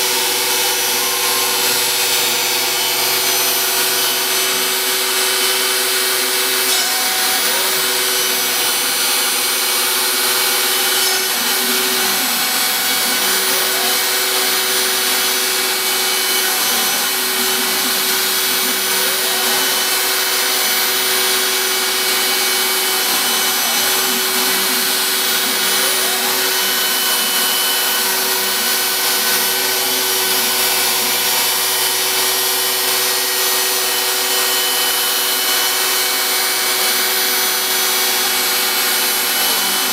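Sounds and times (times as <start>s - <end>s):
axis motors whining: 0.0s - 39.9s
router spindle cutting: 0.0s - 39.9s.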